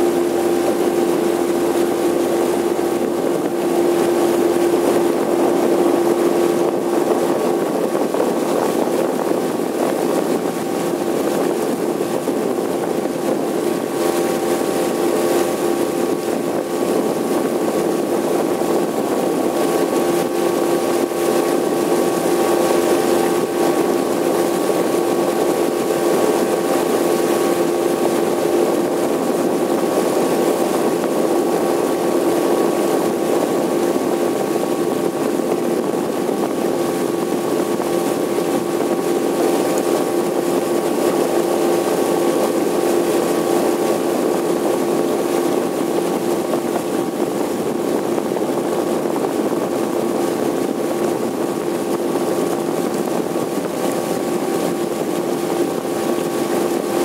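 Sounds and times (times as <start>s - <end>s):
motorboat engine droning: 0.0s - 57.0s
rushing water: 0.0s - 57.0s
wind: 0.0s - 57.0s.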